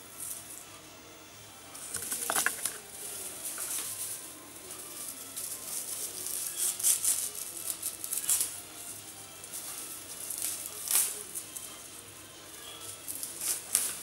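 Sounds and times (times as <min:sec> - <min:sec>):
dried rosemary crackling: 0:00.0 - 0:00.9, 0:01.5 - 0:14.0.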